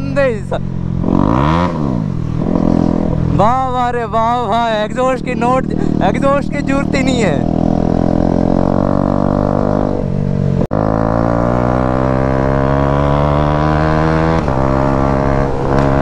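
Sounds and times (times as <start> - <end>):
loud motorcycle engine accelerating: 0.8 - 3.6, 4.2 - 16.0.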